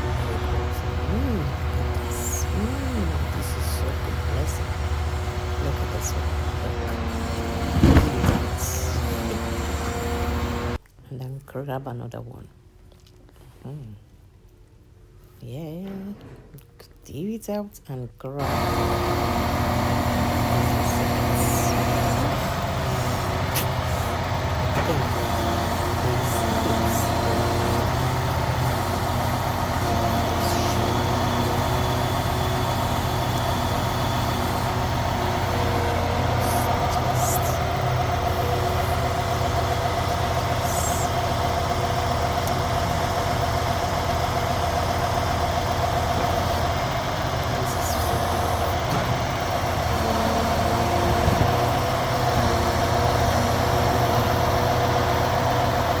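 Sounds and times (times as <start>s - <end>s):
diesel engine running: 0.0s - 10.8s, 18.4s - 56.0s
hydraulic whine: 0.0s - 10.8s, 18.4s - 56.0s.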